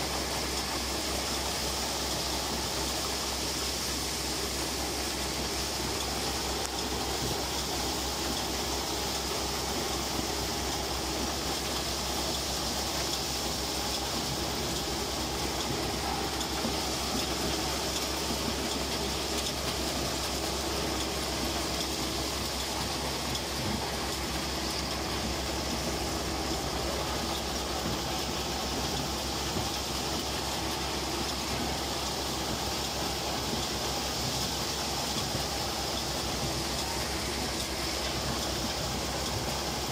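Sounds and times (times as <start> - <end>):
harvester machinery running: 0.0 - 39.9.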